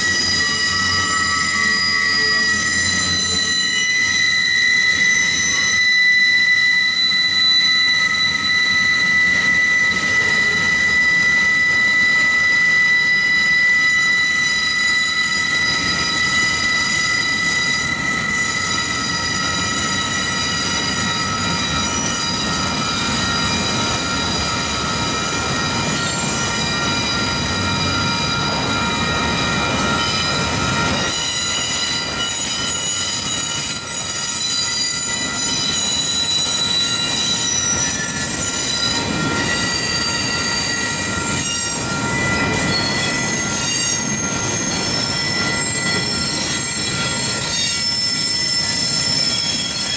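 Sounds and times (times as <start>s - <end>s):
low rumble of freight cars: 0.0s - 49.9s
steel wheels squealing on rails: 0.0s - 49.9s.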